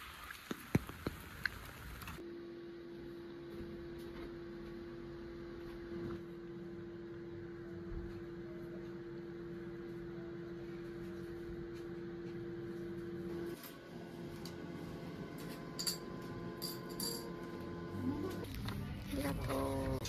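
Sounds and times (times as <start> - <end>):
low room tone hum: 1.0 - 20.0.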